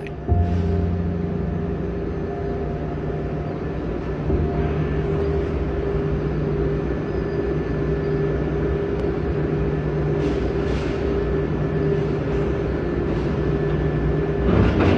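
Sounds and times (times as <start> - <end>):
truck diesel engine droning: 0.0 - 14.7.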